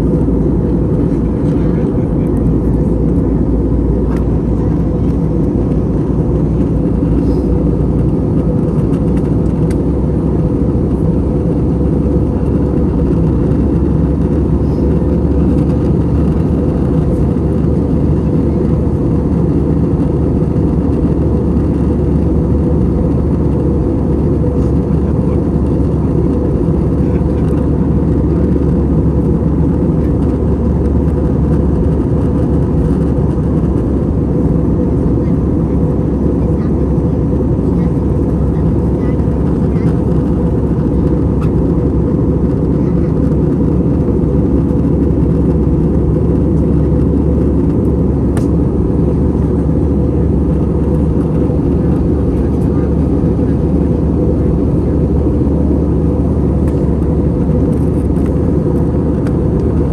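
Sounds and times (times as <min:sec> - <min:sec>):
airflow roar: 0:00.0 - 0:59.9
jet engine drone in cabin: 0:00.0 - 0:59.9.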